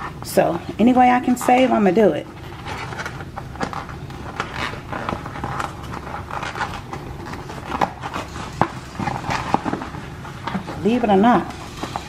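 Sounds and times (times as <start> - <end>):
low steady hum: 0.0 - 12.0
aluminium foil crinkling: 1.2 - 12.0.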